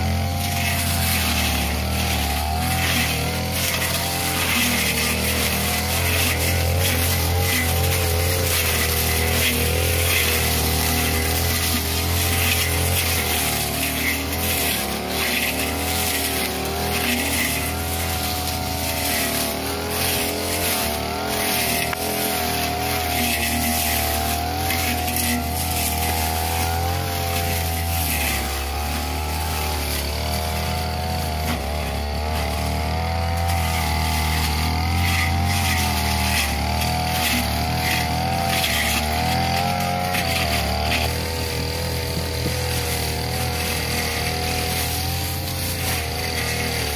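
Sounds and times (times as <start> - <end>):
brush cutter cutting grass: 0.0 - 46.9.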